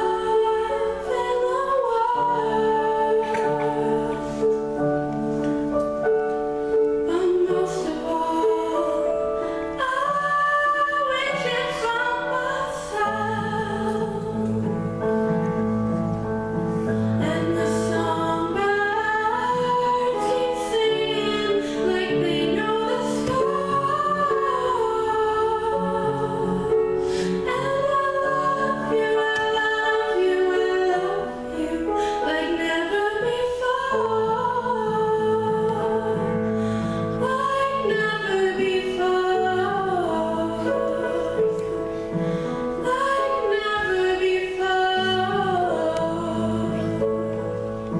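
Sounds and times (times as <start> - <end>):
woman singing: 0.0 - 4.6, 7.0 - 14.8, 17.2 - 36.4, 37.1 - 41.8, 42.7 - 47.4
piano accompaniment: 0.0 - 47.9.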